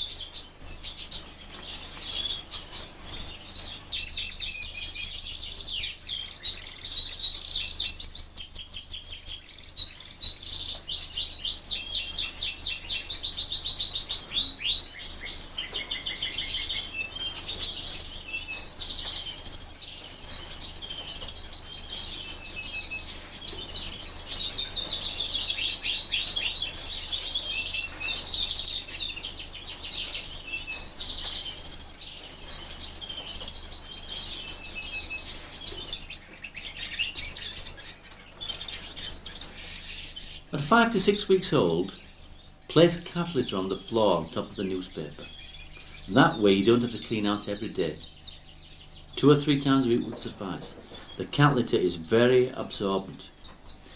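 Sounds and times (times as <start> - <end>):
canaries trilling and chirping: 0.0 - 53.9.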